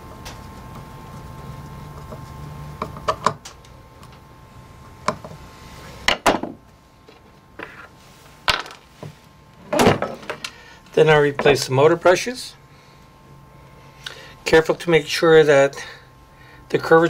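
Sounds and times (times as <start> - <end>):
low steady motor hum: 0.0 - 17.0.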